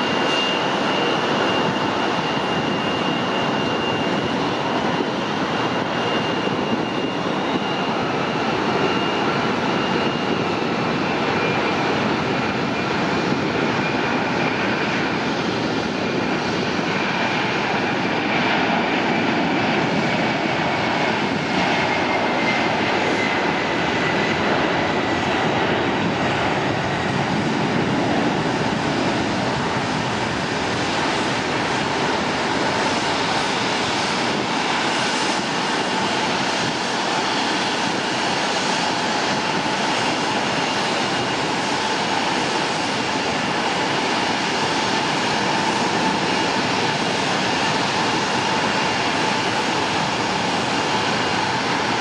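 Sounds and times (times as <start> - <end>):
jet engines at takeoff: 0.0 - 52.0.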